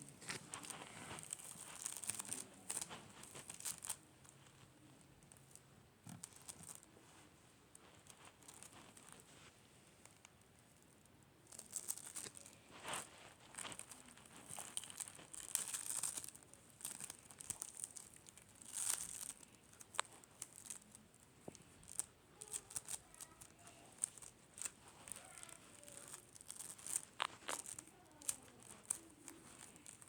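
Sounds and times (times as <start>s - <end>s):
slime squishing with crackly pops: 0.0s - 7.0s, 7.7s - 30.0s.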